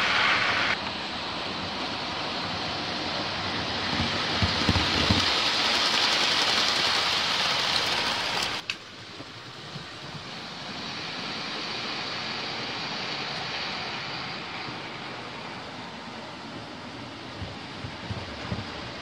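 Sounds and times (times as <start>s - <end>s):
model train wheels hissing on track: 0.0s - 19.0s.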